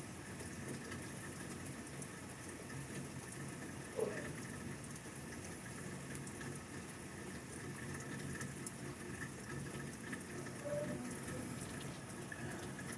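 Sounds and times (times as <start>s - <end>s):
raindrops ticking on surfaces: 0.0s - 12.9s
steady rain falling: 0.0s - 12.9s.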